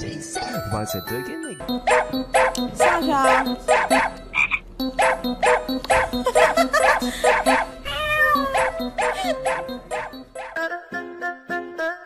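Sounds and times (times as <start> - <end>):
bouncy background music: 0.0 - 12.0.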